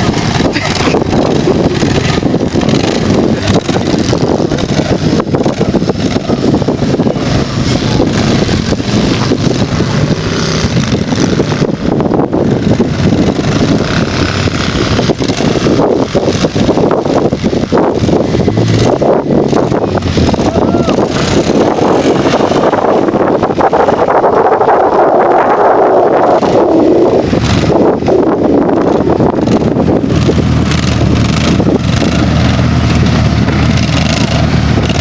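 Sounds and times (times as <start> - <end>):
buggy engines running: 0.0 - 35.0
wind on microphone: 0.0 - 35.0.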